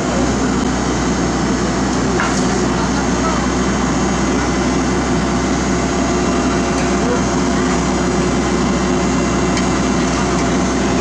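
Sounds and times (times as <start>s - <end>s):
heavy diesel engines droning: 0.0s - 11.0s.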